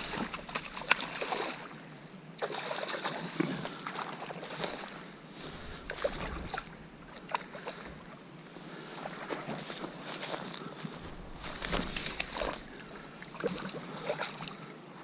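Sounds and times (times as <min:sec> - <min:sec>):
water splashing: 0:00.0 - 0:08.2, 0:09.0 - 0:14.7
rod and line rustling: 0:00.0 - 0:14.7.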